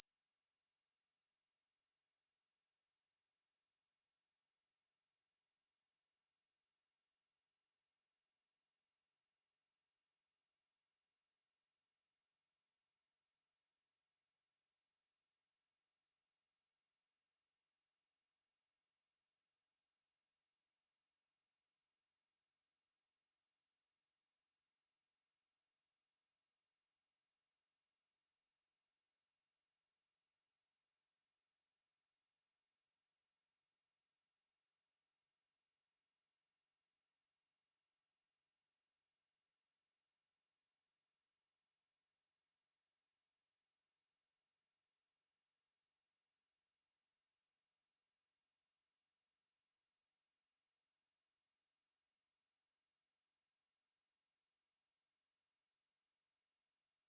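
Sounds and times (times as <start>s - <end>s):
high-pitched sine-wave test tone: 0.0s - 57.0s.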